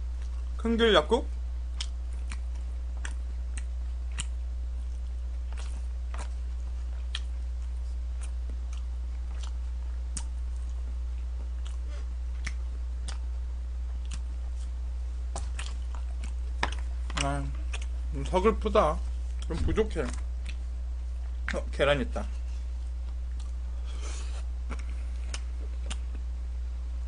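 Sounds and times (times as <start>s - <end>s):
low hum: 0.0s - 27.0s
close-up chewing: 1.7s - 21.6s, 22.4s - 26.3s.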